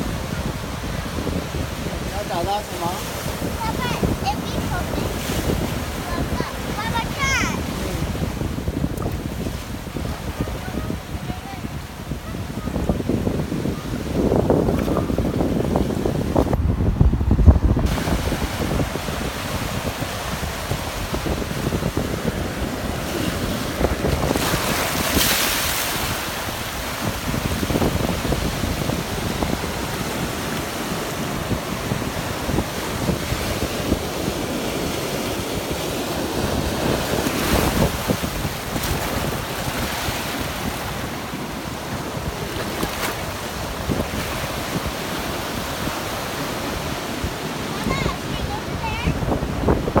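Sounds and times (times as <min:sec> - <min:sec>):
surf washing onto beach: 0:00.0 - 0:50.0
wind buffeting microphone: 0:00.0 - 0:50.0.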